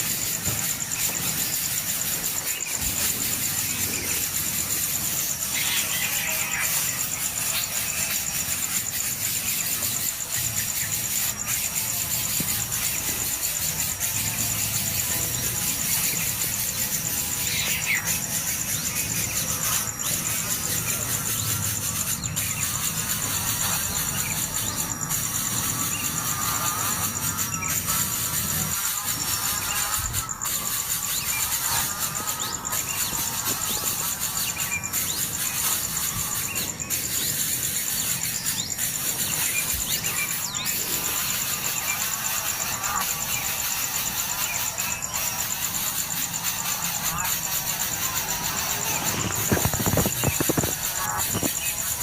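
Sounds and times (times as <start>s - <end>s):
high-pitched pulsing insect buzz: 0.0s - 52.0s
nestlings cheeping: 0.0s - 52.0s.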